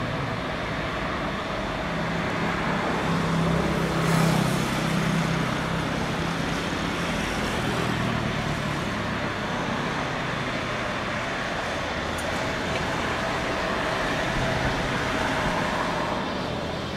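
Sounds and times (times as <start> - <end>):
road traffic noise: 0.0 - 16.9.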